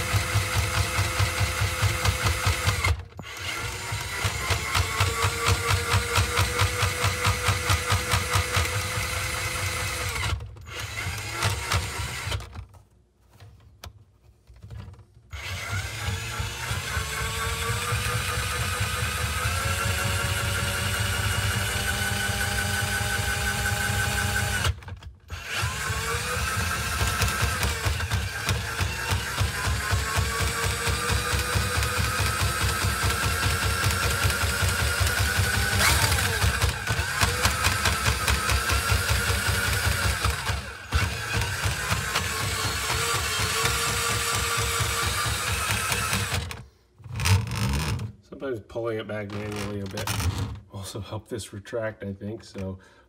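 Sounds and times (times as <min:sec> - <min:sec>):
drain auger motor pulsing: 0:00.0 - 0:12.6, 0:15.4 - 0:46.6.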